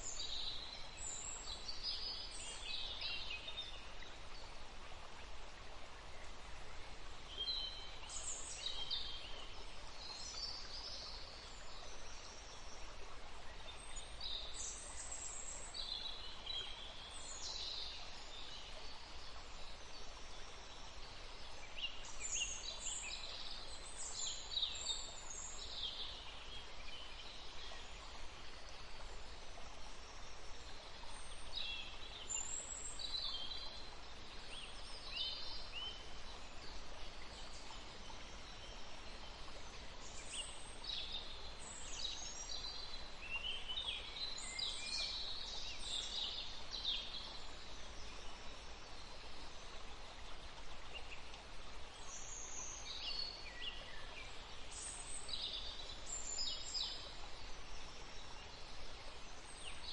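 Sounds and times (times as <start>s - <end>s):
stream flowing: 0.0s - 59.9s
songbirds singing: 6.0s - 59.9s.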